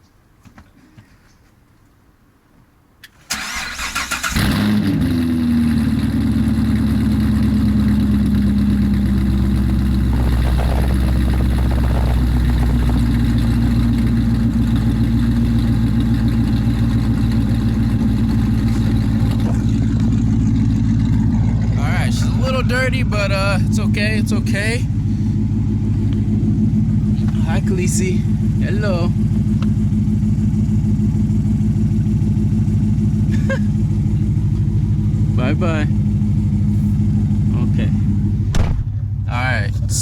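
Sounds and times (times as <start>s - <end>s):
car engine idling loudly: 4.4s - 40.0s.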